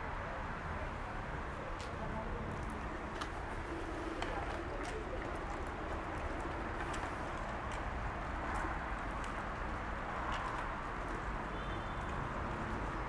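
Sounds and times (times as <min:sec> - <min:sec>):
outdoor background noise: 0:00.0 - 0:13.0
footsteps on asphalt: 0:01.8 - 0:13.0.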